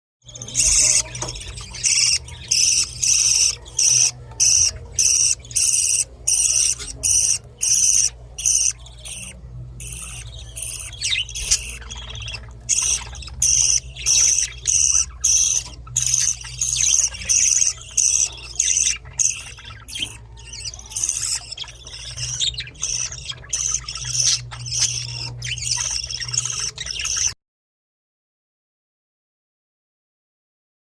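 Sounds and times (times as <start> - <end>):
budgerigar chicks chirping: 0.2 - 27.4.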